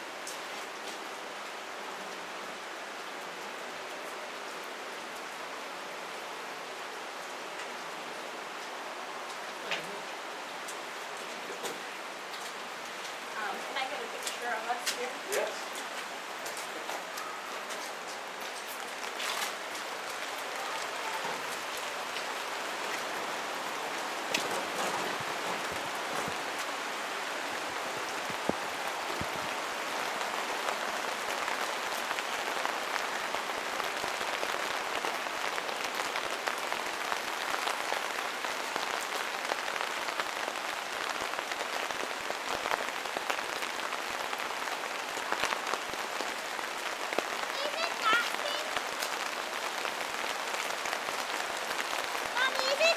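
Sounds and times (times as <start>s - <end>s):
raindrops ticking on surfaces: 0.0s - 52.9s
steady rain falling: 0.0s - 52.9s.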